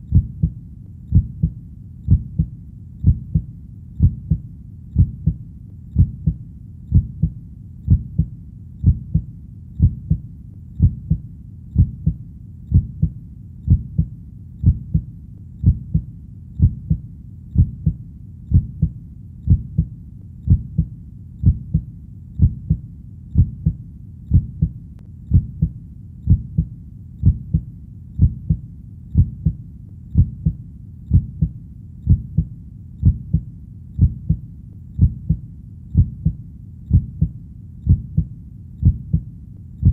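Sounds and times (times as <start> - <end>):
heartbeat: 0.0 - 39.9
low steady rumble: 0.0 - 39.9.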